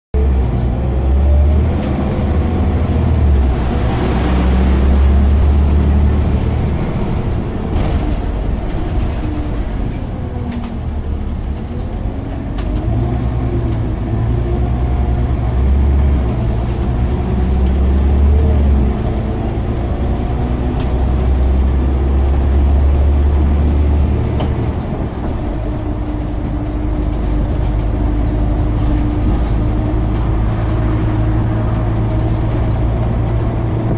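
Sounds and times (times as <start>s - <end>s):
bus engine drone: 0.1s - 33.9s.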